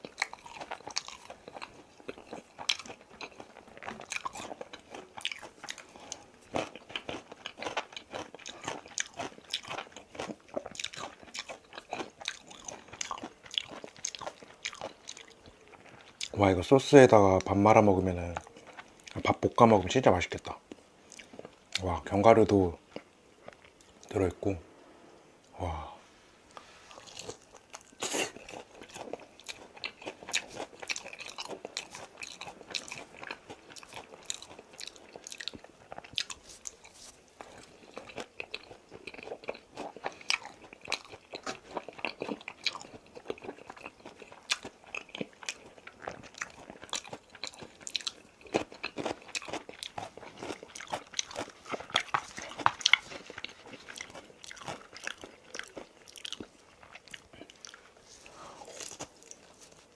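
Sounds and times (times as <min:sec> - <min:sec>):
crunchy chewing: 0:00.0 - 0:24.4, 0:26.5 - 0:59.9.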